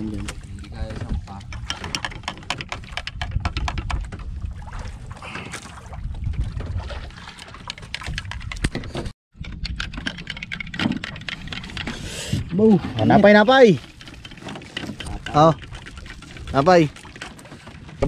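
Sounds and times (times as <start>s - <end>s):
water: 0.0s - 18.0s
wind rumble: 0.0s - 18.0s.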